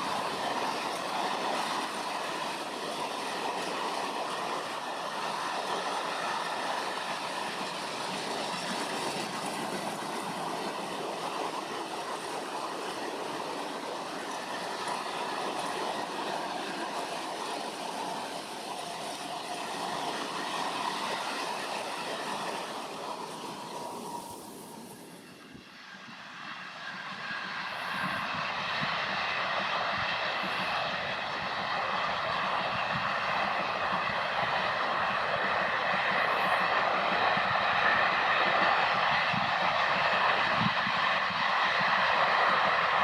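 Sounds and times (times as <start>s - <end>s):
train rolling on rails: 0.0s - 43.0s.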